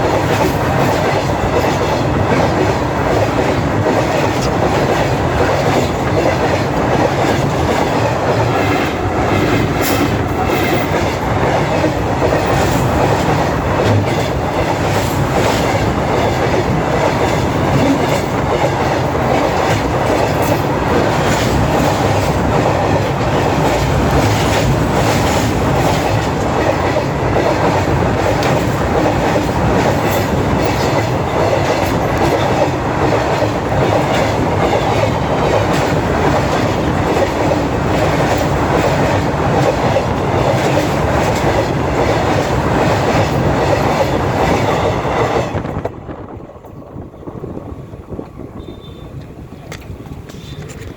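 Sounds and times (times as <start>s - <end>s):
wheels clacking over rail joints: 0.0s - 47.1s, 48.0s - 50.9s
freight train rumbling past: 0.0s - 50.9s.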